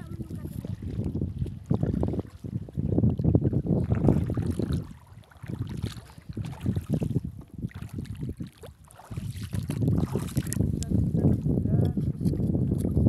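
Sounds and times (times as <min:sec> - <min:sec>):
water sloshing around legs: 0:00.0 - 0:13.0
wind rumbling on microphone: 0:00.0 - 0:13.0.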